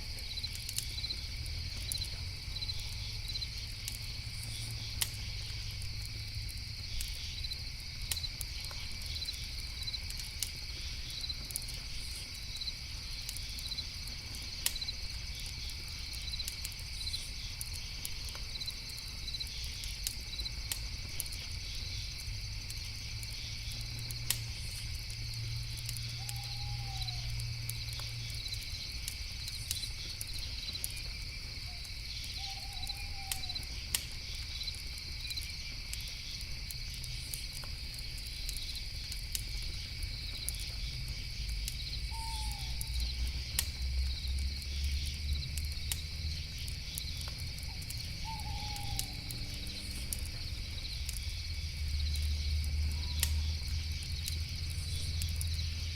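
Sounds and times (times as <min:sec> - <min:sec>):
campfire crackling: 0:00.0 - 0:55.9
crickets chirring: 0:00.0 - 0:55.9.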